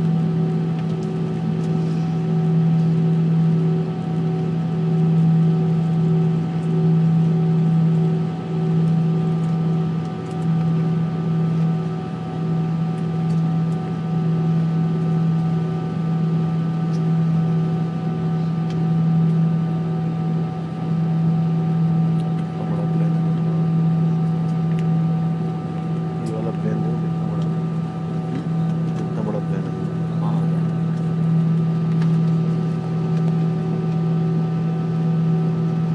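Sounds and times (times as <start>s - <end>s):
jet engine hum inside cabin: 0.0s - 35.9s.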